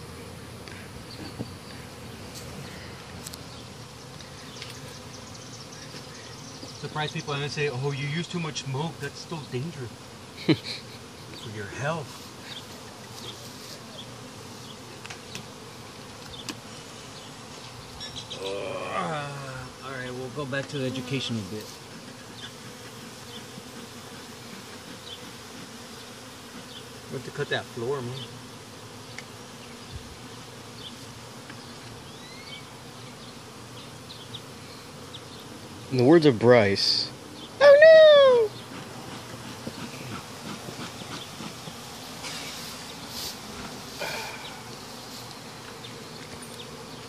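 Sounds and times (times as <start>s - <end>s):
bees buzzing: 0.0s - 47.0s.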